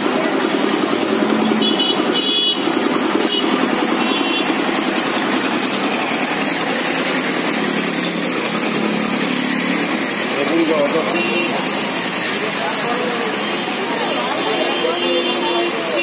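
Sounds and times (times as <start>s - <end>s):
vehicle and motorcycle engines: 0.0s - 16.0s.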